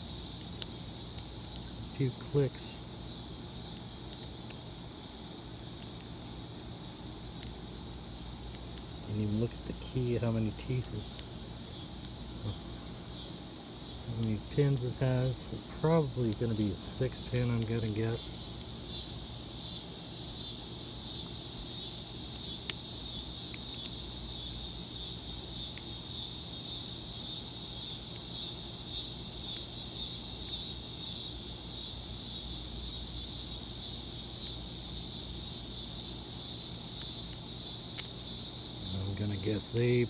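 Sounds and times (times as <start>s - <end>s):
insects chorus pulsing: 0.0s - 40.0s.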